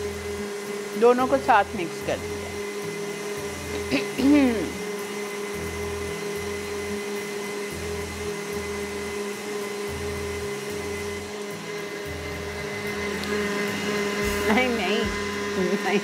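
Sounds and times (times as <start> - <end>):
stand mixer motor whine: 0.0 - 16.0.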